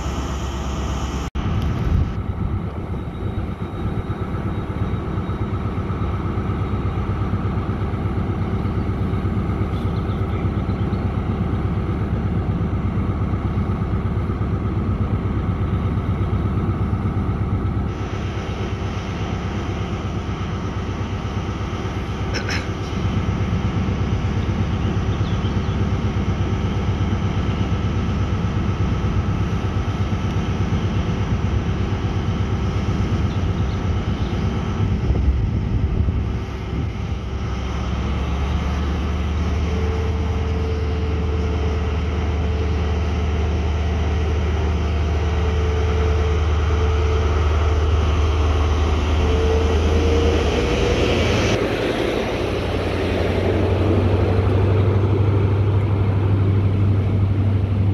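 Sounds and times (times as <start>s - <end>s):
train engine running: 0.0s - 57.9s.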